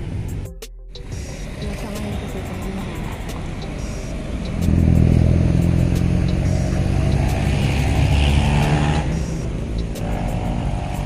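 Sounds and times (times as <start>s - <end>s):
vehicle engine running loudly: 1.4s - 11.0s.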